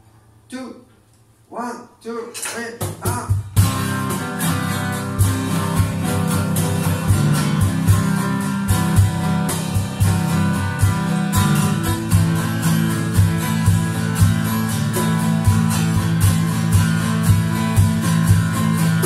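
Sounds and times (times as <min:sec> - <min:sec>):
sharp percussion hits: 0:02.4 - 0:19.0
acoustic guitar strummed: 0:02.8 - 0:19.0.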